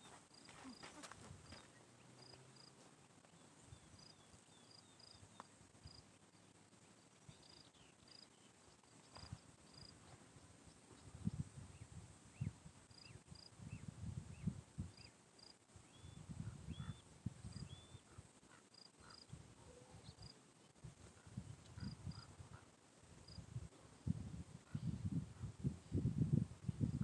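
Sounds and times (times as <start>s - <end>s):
faint birdsong chirps: 0.0s - 26.0s.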